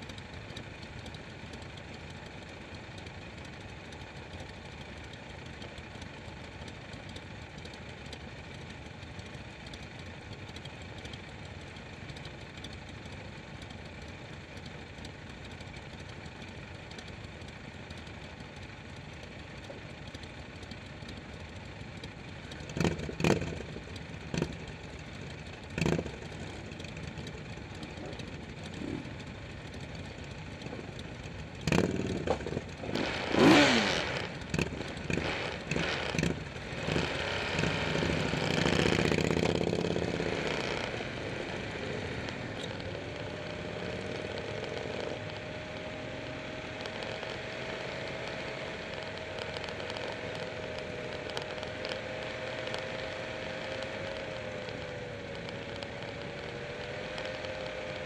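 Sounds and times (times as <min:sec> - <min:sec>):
motorcycle engines idling: 0:00.0 - 0:58.0
motorcycles pulling away: 0:00.0 - 0:58.0
motorcycle throttle blips: 0:00.1 - 0:58.0.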